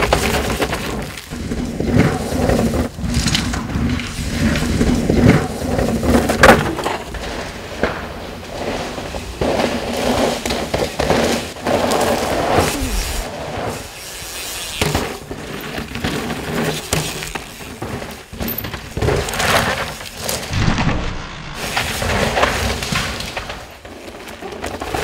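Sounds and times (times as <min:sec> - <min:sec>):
bike knocking and rattling: 0:00.0 - 0:20.6
bike tyres crunching on debris: 0:00.0 - 0:25.0.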